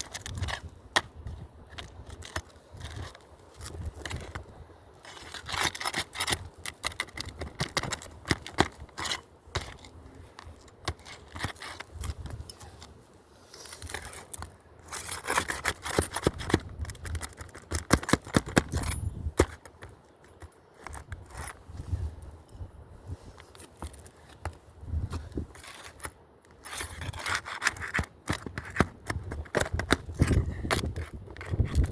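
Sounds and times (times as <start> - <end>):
pry tools scraping shingles: 0.0 - 21.7, 23.5 - 31.9.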